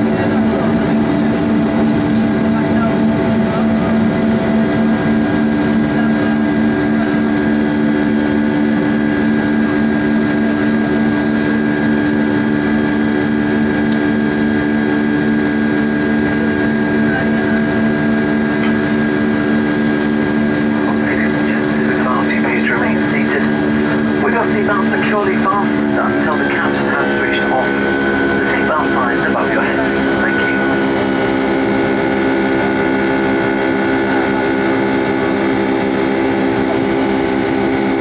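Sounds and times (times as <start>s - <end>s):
jet engines droning: 0.0s - 38.0s.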